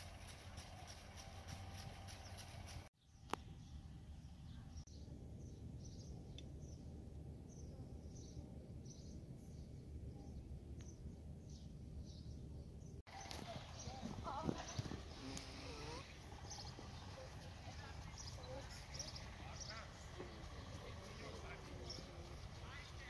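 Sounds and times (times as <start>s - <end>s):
low steady rumble: 0.0s - 23.0s
small birds chirping: 0.0s - 23.0s.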